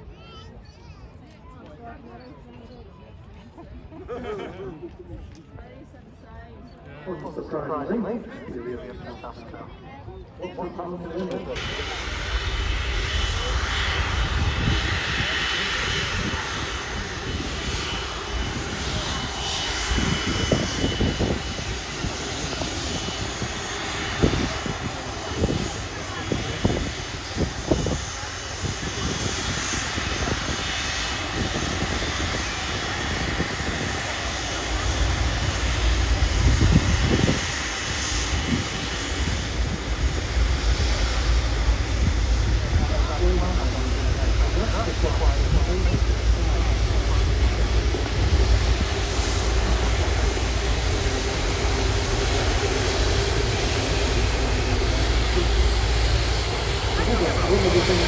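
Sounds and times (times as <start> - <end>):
jet engine rumble and hiss: 0.0 - 58.0.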